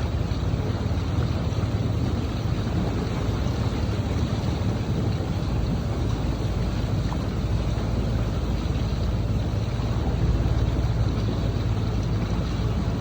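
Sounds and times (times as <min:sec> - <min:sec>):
boat motor running: 0:00.0 - 0:13.0
water noise: 0:00.0 - 0:13.0
wind noise: 0:00.0 - 0:13.0.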